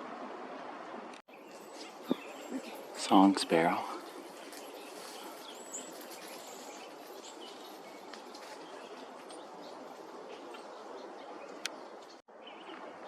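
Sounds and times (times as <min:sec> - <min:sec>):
steady outdoor hiss: 0:00.0 - 0:13.0
songbirds chirping: 0:01.0 - 0:13.0.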